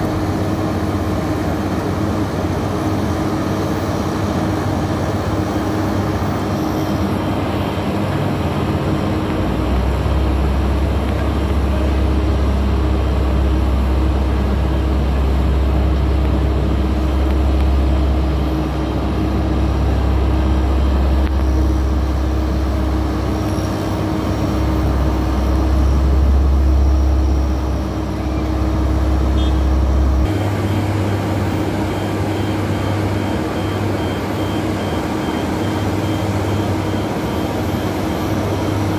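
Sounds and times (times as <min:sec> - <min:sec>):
construction machinery rumbling: 0:00.0 - 0:38.9.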